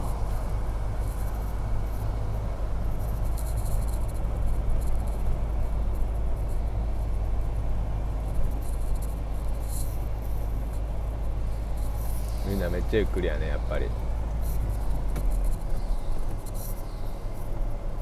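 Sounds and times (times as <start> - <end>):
car road noise on wet road: 0.0 - 18.0.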